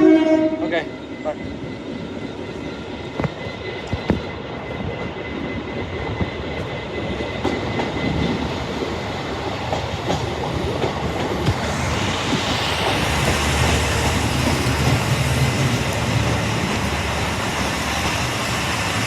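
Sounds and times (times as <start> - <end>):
train wheels clicking on rails: 2.8 - 19.0.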